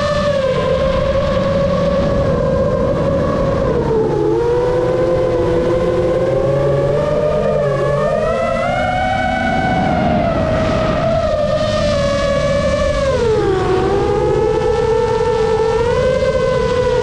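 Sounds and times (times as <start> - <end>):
drone propellers whining: 0.0 - 17.0
rushing noise: 0.0 - 17.0.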